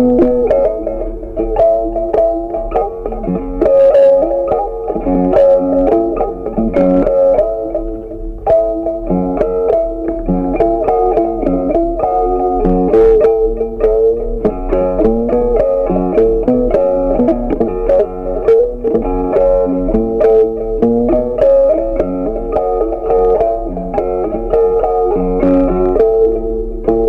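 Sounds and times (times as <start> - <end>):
plucked-string melody: 0.0 - 27.0.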